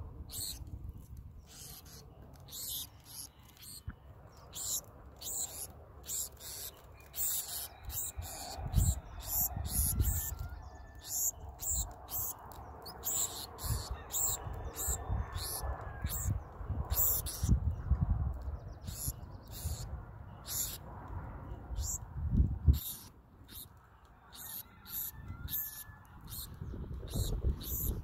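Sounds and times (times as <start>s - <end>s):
birds ticking and chipping: 0.0s - 28.0s.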